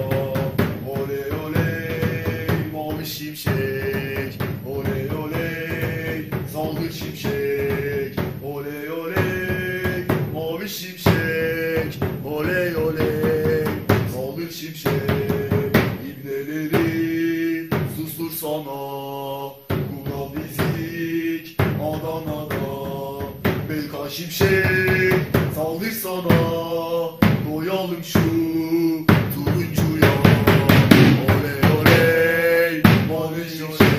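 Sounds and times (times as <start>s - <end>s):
drum beat: 0.0s - 18.4s, 19.6s - 33.9s
men chanting: 0.0s - 33.9s.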